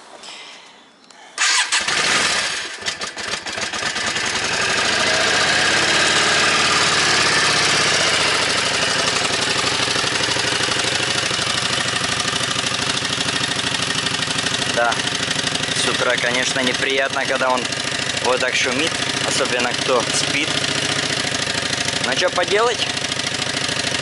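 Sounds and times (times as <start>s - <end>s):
motorcycle engine starting and idling: 1.4s - 24.0s.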